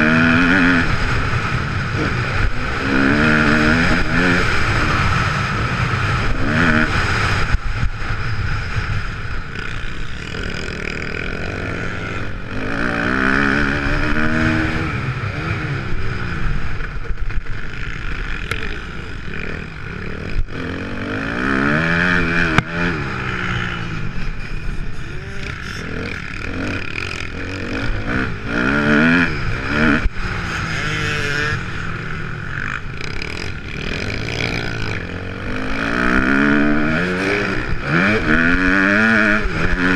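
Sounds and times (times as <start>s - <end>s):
motocross engine revving: 0.0s - 7.7s, 9.5s - 39.9s.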